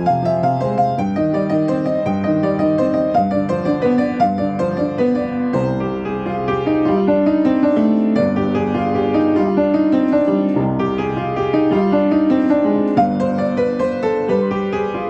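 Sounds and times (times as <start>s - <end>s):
upright piano playing: 0.0s - 15.0s.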